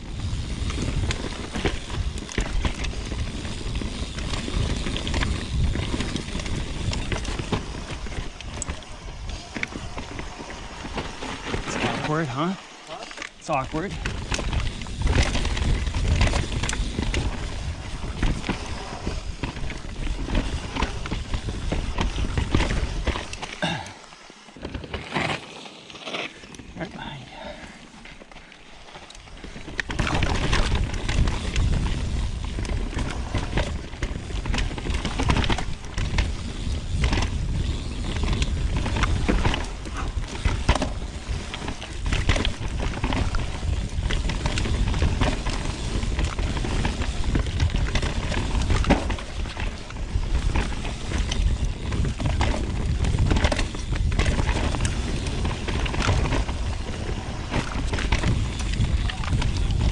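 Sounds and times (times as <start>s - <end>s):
bike rattling and knocking: 0.0s - 12.6s, 13.2s - 23.9s, 29.3s - 59.9s
bike rumbling on dirt trail: 0.0s - 59.9s.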